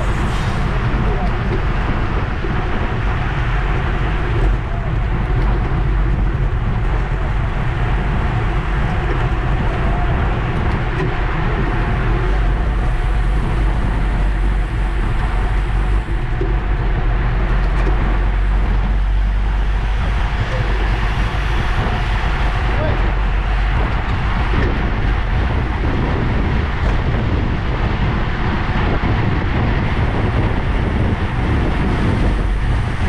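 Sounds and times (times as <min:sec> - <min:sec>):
road and tyre noise: 0:00.0 - 0:33.0
wind rushing over microphone: 0:00.0 - 0:33.0.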